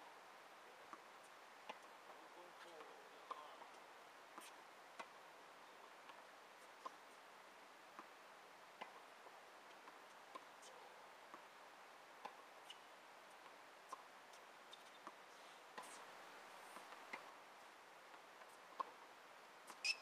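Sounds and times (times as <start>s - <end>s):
low steady hiss: 0.0s - 20.0s.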